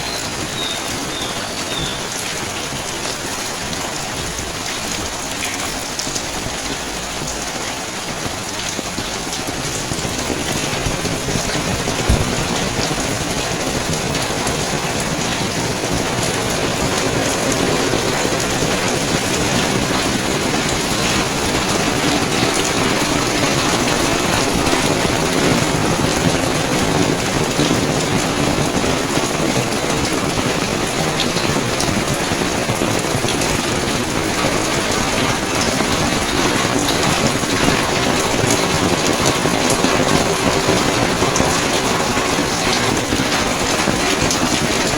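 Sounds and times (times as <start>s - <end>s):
heavy rain hissing: 0.0s - 44.9s.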